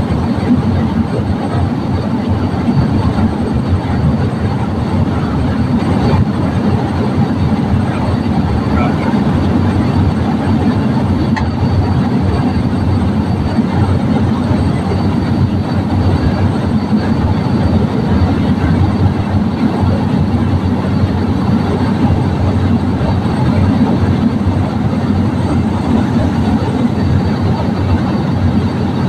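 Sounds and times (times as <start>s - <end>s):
light aircraft engine drone: 0.0s - 29.0s.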